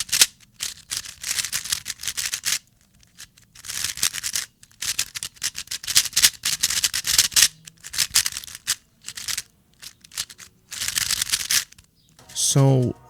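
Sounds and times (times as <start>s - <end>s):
speed cube clacking: 0.0s - 12.0s.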